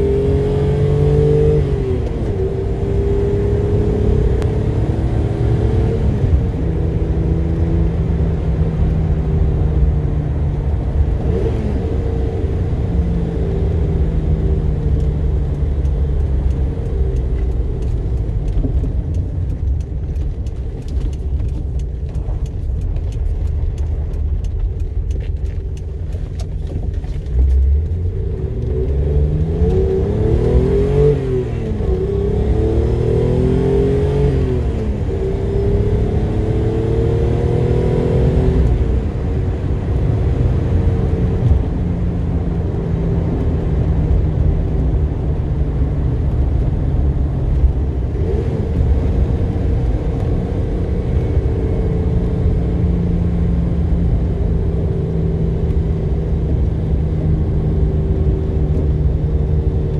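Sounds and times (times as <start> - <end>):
car engine accelerating through gears: 0.0 - 59.9
low road rumble: 0.0 - 59.9.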